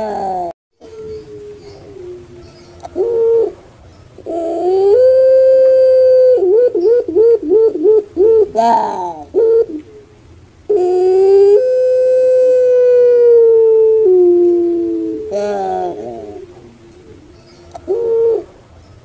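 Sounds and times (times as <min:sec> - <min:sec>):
dove cooing and trilling: 0:00.0 - 0:18.6.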